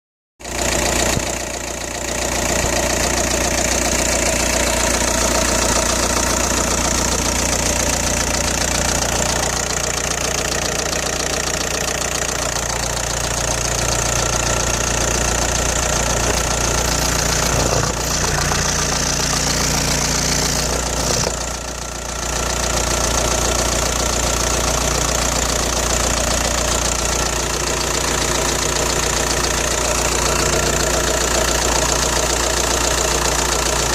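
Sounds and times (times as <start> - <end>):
diesel engine rattling: 0.4 - 33.9.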